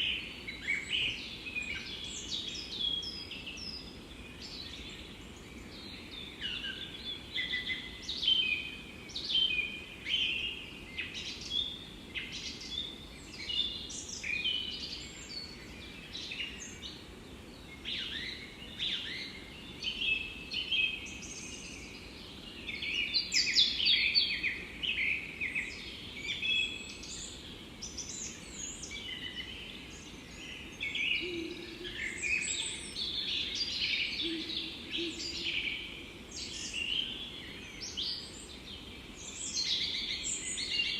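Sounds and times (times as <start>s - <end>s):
birds chirping and trilling: 0.0s - 40.9s
steady low background hiss: 0.0s - 40.9s.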